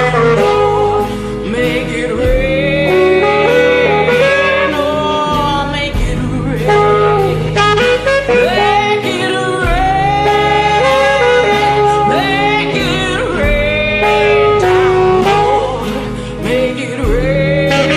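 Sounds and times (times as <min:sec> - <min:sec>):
backing band with bass: 0:00.0 - 0:17.9
saxophone blues solo: 0:00.0 - 0:17.9.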